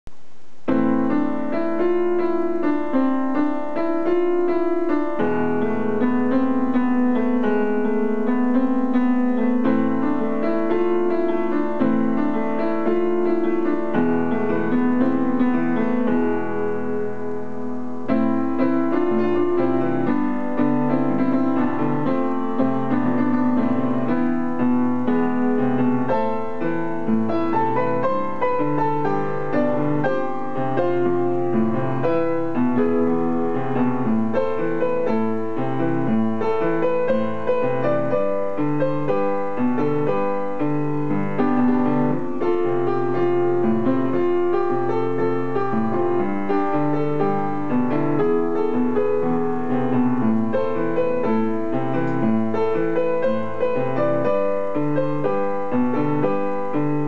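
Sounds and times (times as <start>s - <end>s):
solo piano playing: 0.1s - 57.0s.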